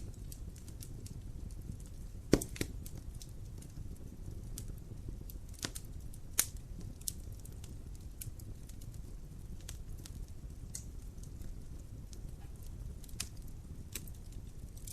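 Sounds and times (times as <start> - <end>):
low rumble of flames: 0.0 - 14.9
wood fire crackling and popping: 0.0 - 14.9.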